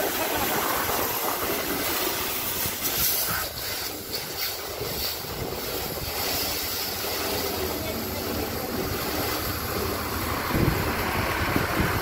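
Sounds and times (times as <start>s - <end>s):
hose water spraying on car: 0.0s - 12.0s.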